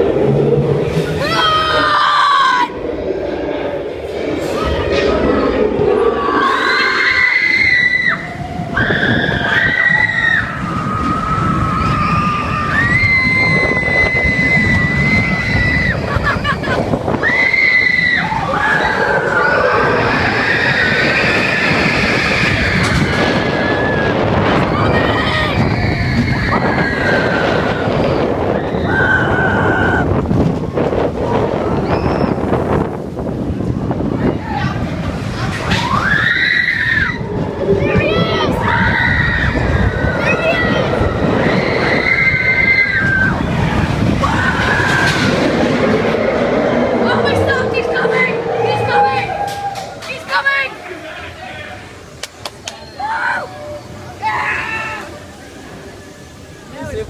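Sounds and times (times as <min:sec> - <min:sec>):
riders screaming: 0:00.0 - 0:03.0, 0:04.5 - 0:30.2, 0:35.6 - 0:50.1, 0:52.8 - 0:55.3
roller coaster rumbling on track: 0:00.0 - 0:57.0
wind on microphone: 0:02.6 - 0:50.4.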